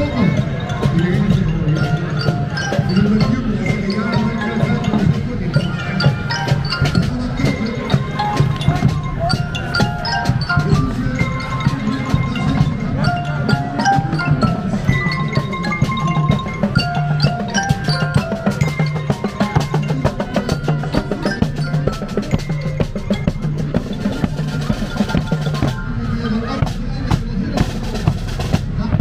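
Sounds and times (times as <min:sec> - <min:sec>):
glockenspiel and xylophone melody: 0:00.0 - 0:29.0
marching drums: 0:00.0 - 0:29.0.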